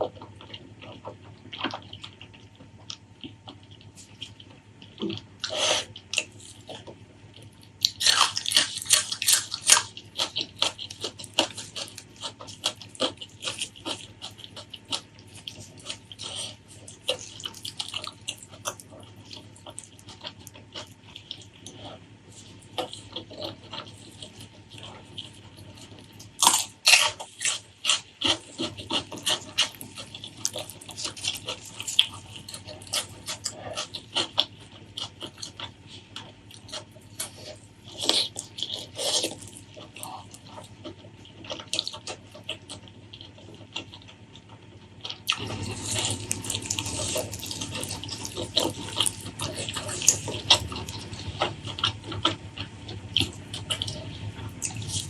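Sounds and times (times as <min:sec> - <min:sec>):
wet chewing and lip-smacking: 0:00.0 - 0:55.0.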